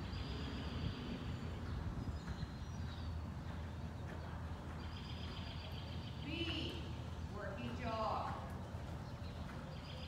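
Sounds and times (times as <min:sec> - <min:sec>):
horse hooves on sand: 0:00.9 - 0:10.0.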